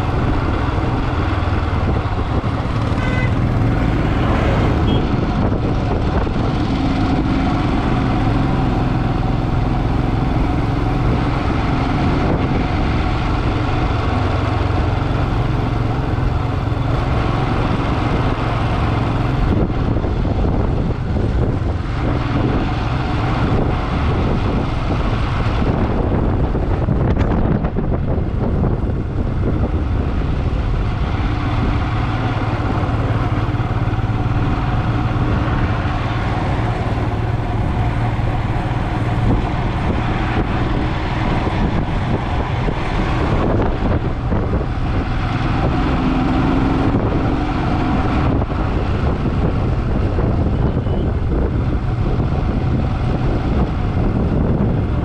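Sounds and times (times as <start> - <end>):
motorcycle engine rumble: 0.0 - 55.0
steady rush of noise: 0.0 - 55.0.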